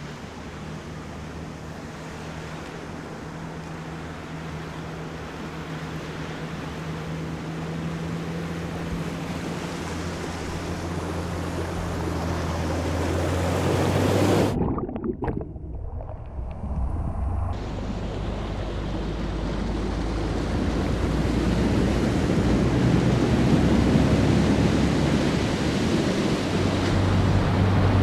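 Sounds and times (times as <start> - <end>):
car engine hum: 0.0 - 14.6, 15.5 - 28.0
water rushing: 0.0 - 28.0
water splashes: 0.0 - 28.0.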